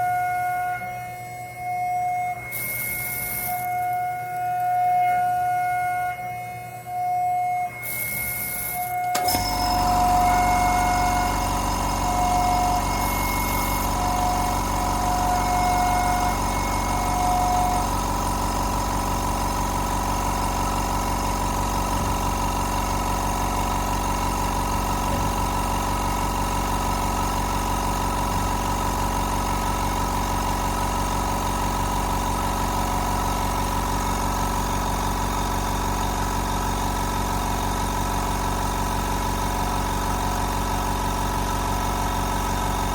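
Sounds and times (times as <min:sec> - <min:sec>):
machine hum: 0:00.0 - 0:38.1
router cutting whine: 0:00.0 - 0:42.9.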